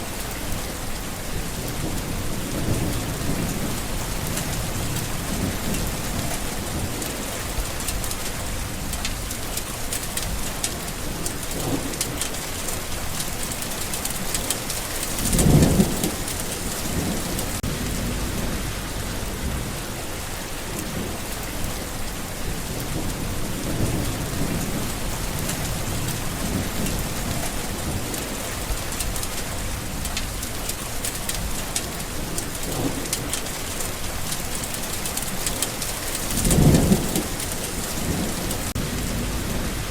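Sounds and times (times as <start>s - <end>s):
low thunder rumbles: 0.0s - 39.9s
steady rain: 0.0s - 39.9s.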